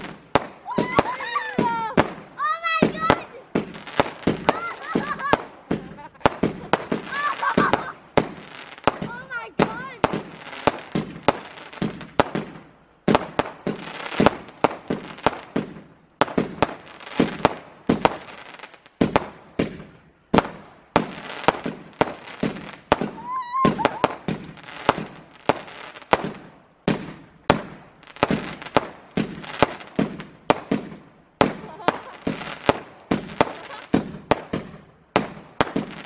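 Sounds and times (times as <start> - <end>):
fireworks bangs: 0.0 - 36.0
fireworks crackling: 0.0 - 36.0.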